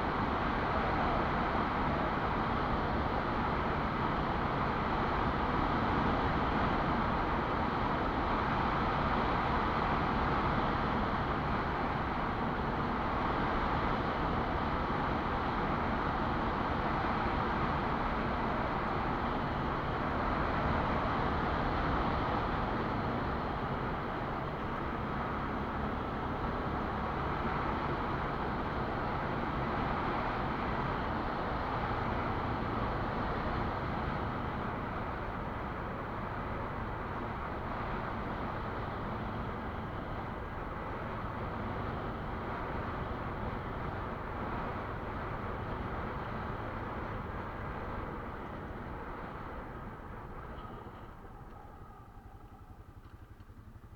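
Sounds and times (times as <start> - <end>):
quad bike engine droning: 0.0 - 53.9.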